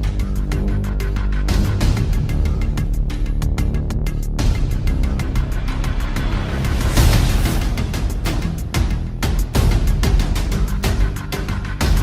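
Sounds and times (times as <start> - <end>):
music with fast drum beat: 0.0 - 12.0.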